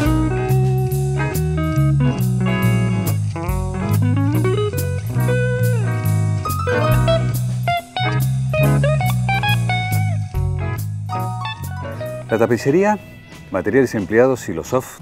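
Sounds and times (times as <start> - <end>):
blues guitar with bass and drums: 0.0 - 14.7.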